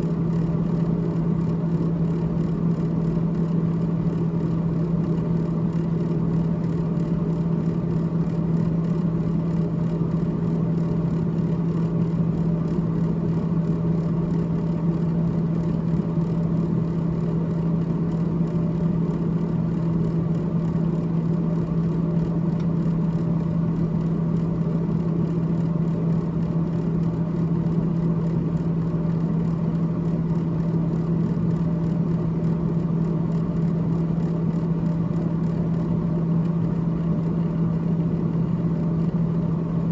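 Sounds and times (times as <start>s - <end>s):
refrigerator freezer fan humming: 0.0s - 39.9s.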